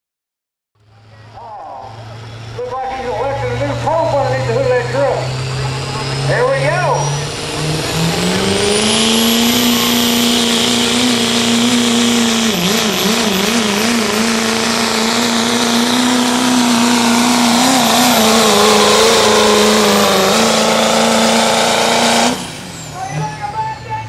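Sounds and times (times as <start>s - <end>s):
diesel engine high-revving drone: 0.8s - 24.0s.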